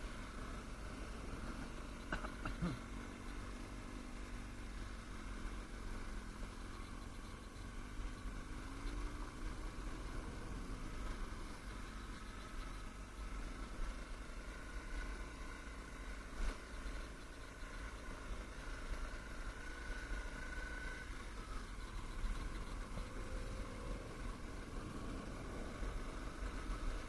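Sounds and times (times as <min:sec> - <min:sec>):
distant motocross bike engines: 0:00.0 - 0:27.0.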